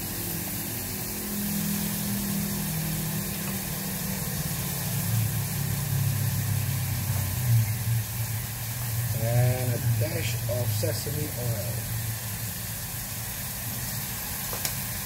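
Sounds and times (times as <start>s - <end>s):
low mechanical hum: 0.0s - 15.0s
steady hiss: 0.0s - 15.0s.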